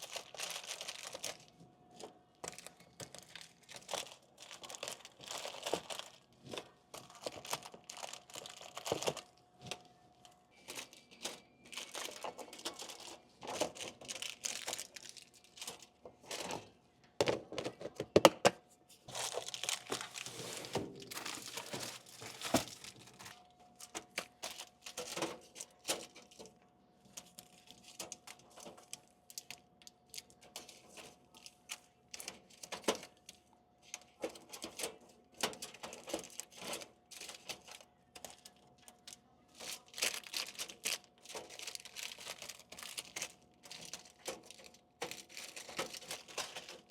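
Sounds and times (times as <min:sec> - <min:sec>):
plastic snack packets crinkling: 0:00.0 - 0:09.9, 0:10.5 - 0:16.6, 0:19.1 - 0:26.5, 0:27.1 - 0:46.9.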